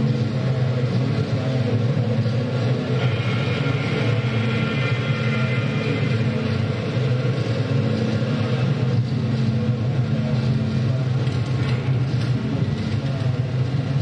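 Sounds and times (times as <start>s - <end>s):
dense low synthesizer drone: 0.0s - 14.0s.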